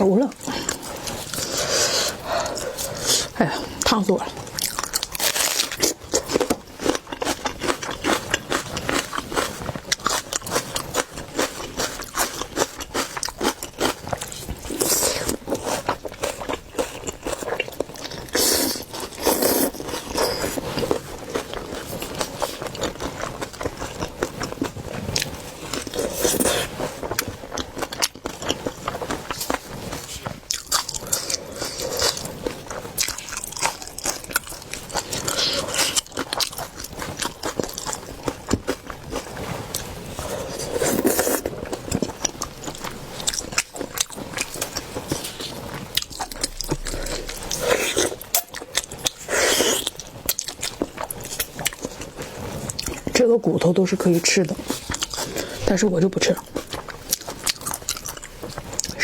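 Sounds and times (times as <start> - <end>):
chewing seafood with crunches: 0.0 - 59.0.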